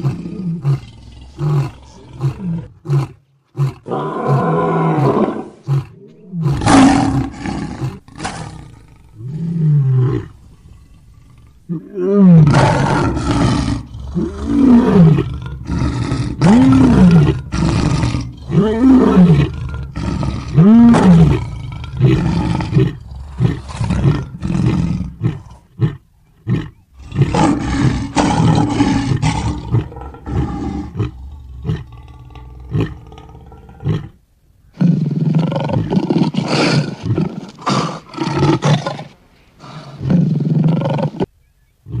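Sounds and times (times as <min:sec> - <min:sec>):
lion roaring: 0:00.0 - 0:34.2.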